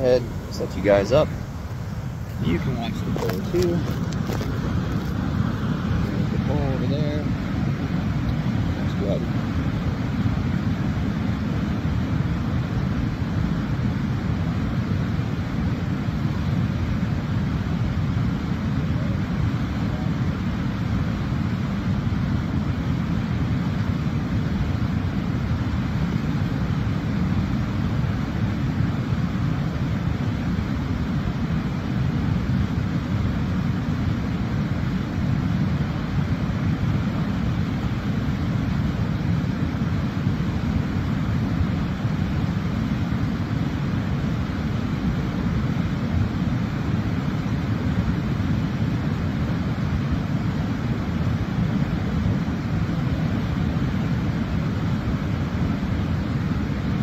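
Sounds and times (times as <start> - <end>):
waterfall rushing rumble: 0.0 - 57.0.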